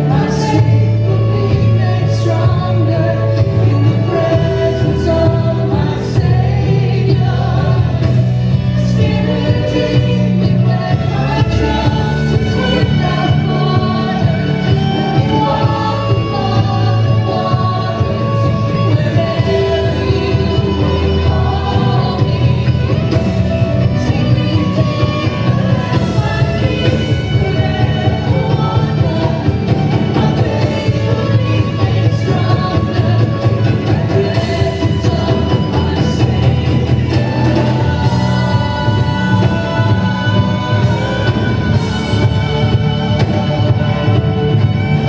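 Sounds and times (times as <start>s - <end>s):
voices singing along: 0.0s - 45.0s
worship band playing: 0.0s - 45.0s.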